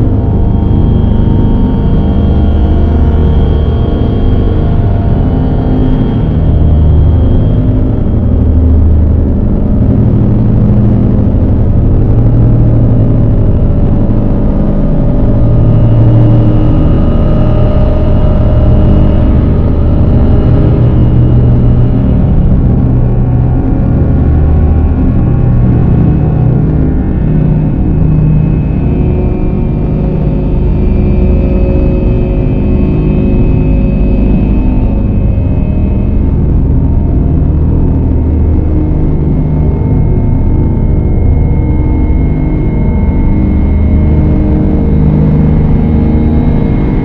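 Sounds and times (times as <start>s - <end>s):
dark ambient drone music: 0.0s - 47.0s.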